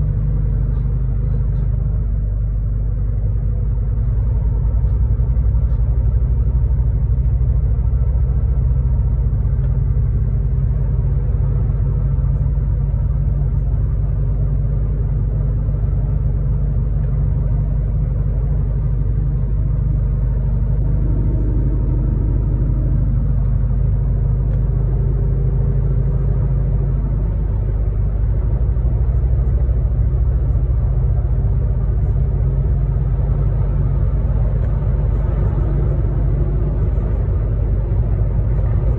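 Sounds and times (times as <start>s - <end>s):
truck engine rumble while driving: 0.0s - 38.9s.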